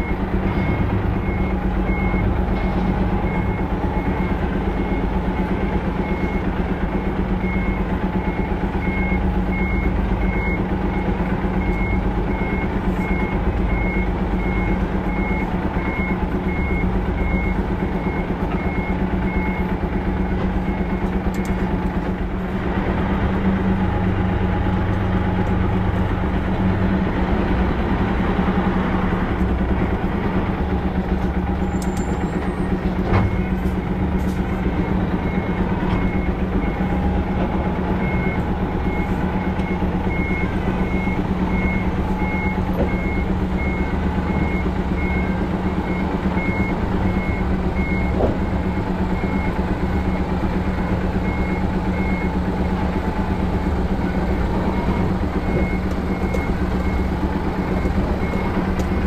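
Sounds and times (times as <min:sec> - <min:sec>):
reversing alarm beeping: 0:00.0 - 0:21.7, 0:30.4 - 0:59.0
truck diesel engine running: 0:00.0 - 0:59.0.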